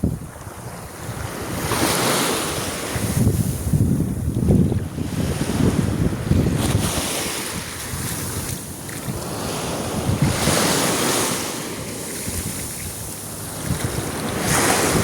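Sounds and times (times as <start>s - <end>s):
sea waves washing on beach: 0.0s - 15.0s
wind buffeting microphone: 0.0s - 15.0s.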